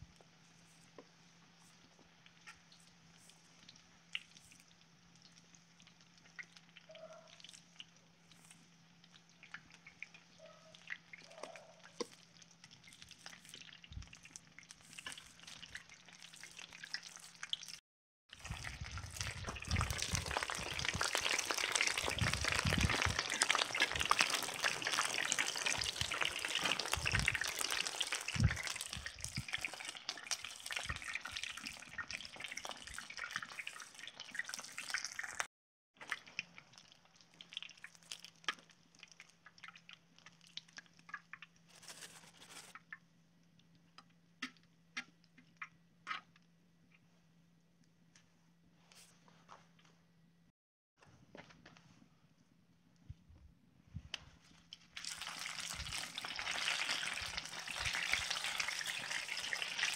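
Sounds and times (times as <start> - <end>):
food deep-frying in hot oil: 0.0 - 46.4, 54.5 - 59.9.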